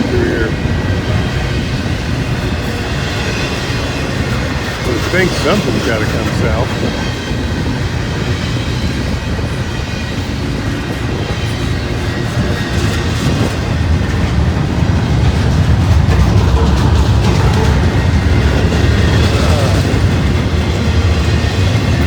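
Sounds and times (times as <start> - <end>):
clickety-clack of rail joints: 0.0 - 22.0
train wheels rumbling on rail: 0.0 - 22.0.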